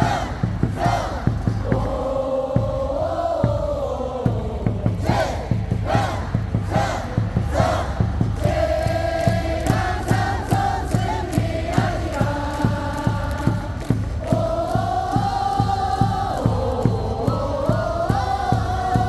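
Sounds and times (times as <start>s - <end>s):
stadium crowd singing in unison: 0.0s - 19.0s
steady drum beat: 0.0s - 19.0s.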